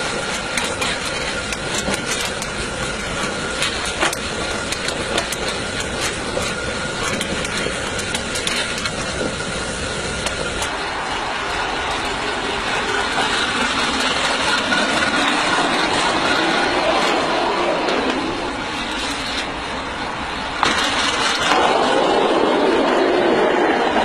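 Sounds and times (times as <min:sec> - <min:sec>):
steam locomotive rushing: 0:00.0 - 0:24.0.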